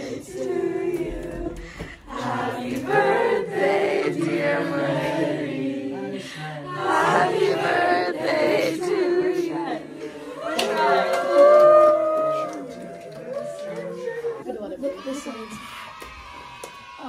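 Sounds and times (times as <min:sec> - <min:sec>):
group singing held notes: 0:00.0 - 0:14.4.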